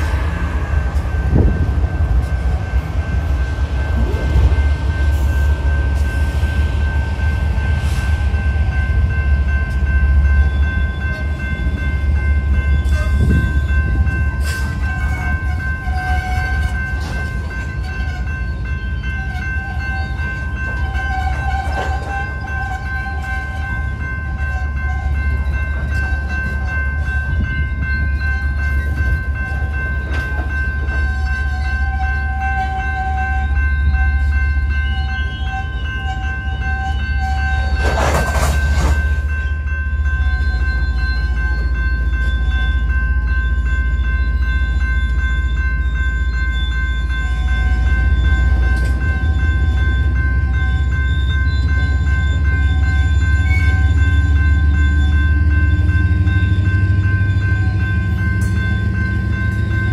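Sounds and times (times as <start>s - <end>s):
crossing bell ringing: 0.0s - 59.9s
train wheels rumbling on rails: 0.0s - 59.9s.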